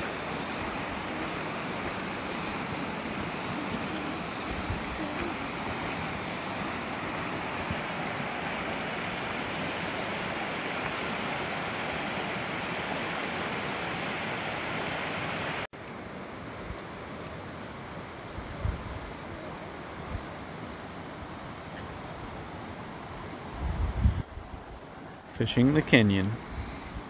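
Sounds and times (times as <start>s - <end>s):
river rushing over rocks: 0.0s - 23.6s.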